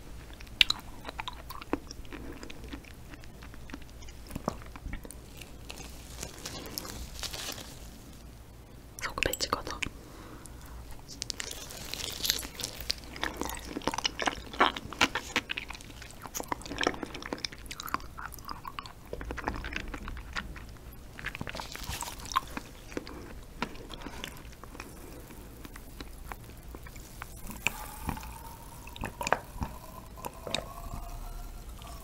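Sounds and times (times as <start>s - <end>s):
wet biting and chewing: 0.2s - 7.7s, 9.8s - 32.0s.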